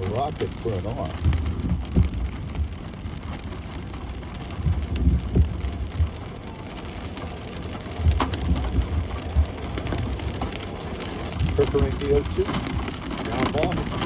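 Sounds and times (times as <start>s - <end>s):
rain falling: 0.0s - 14.0s
thunder rumbles: 0.0s - 14.0s.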